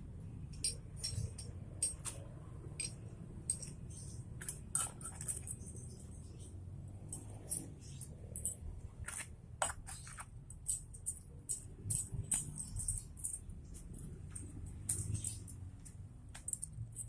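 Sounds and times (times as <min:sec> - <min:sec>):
metal parts clinking and rattling: 0:00.4 - 0:17.0.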